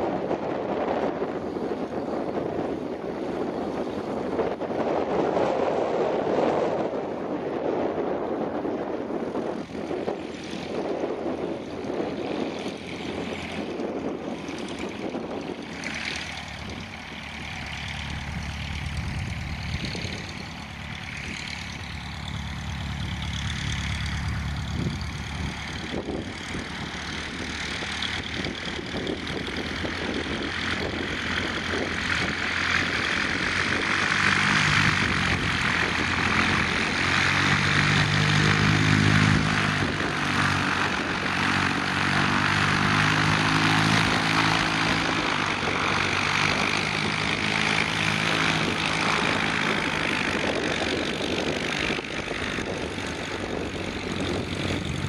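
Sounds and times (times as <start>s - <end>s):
light aircraft engine droning: 0.0s - 55.0s
wind noise on microphone: 0.0s - 55.0s.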